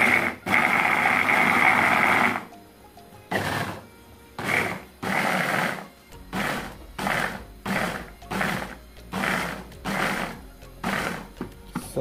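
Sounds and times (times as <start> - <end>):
food chopper motor pulsing: 0.0 - 2.5, 3.3 - 11.6.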